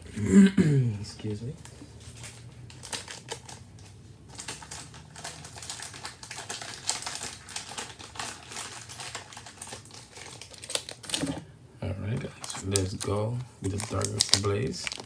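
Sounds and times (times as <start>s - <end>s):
cards and foil wrapper rustling: 2.0s - 11.4s, 12.2s - 15.0s.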